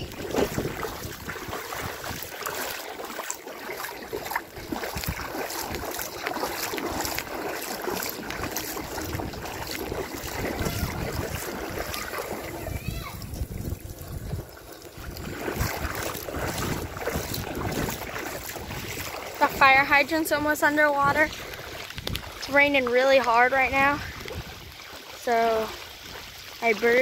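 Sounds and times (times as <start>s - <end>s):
wind noise on microphone: 0.0s - 2.8s, 3.9s - 22.9s, 23.6s - 26.3s
rain: 0.0s - 13.4s, 14.3s - 27.0s
water sloshing from wading: 0.0s - 27.0s.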